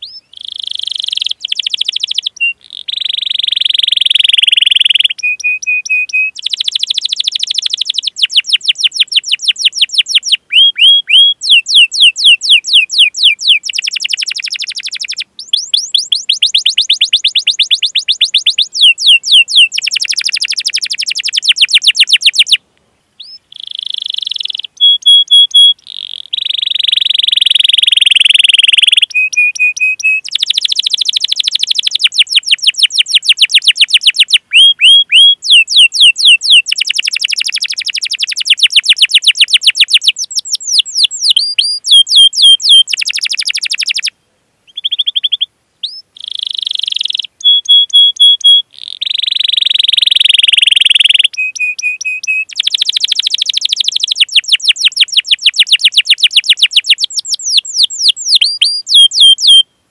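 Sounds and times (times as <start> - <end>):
canary singing: 0.0 - 22.6, 23.2 - 59.8.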